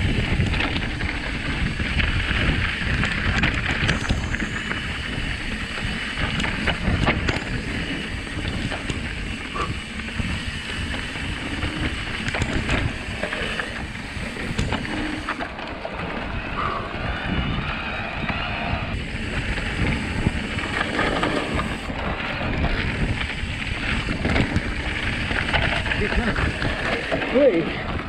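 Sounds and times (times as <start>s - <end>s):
bike clicks and rattles: 0.0s - 28.0s
bike tyre noise: 0.0s - 28.0s
wind on microphone: 0.0s - 28.0s.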